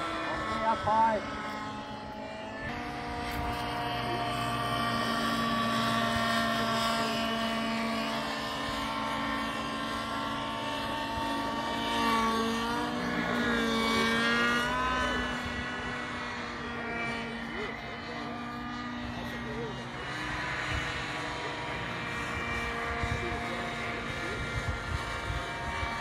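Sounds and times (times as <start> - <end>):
model helicopter motor and rotor: 0.0 - 26.0.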